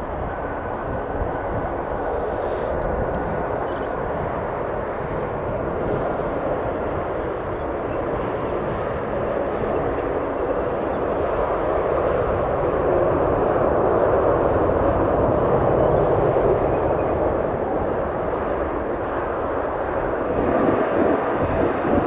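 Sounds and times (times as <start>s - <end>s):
aircraft engine rushing: 0.0s - 22.0s.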